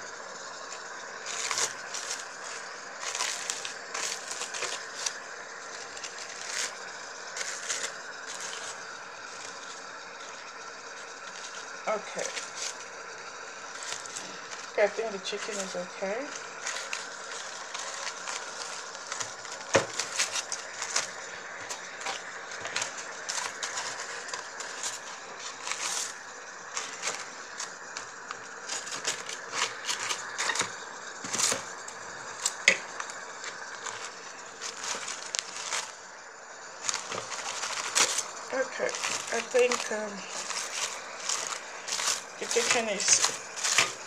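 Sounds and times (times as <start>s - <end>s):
aluminium foil crinkling: 0.0s - 44.0s.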